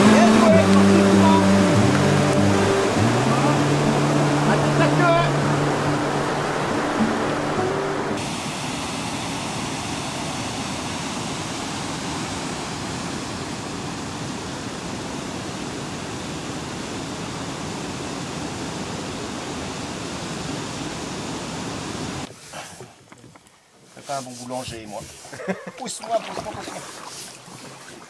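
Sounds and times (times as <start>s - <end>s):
river water over rapids: 0.0s - 22.9s, 24.1s - 28.0s.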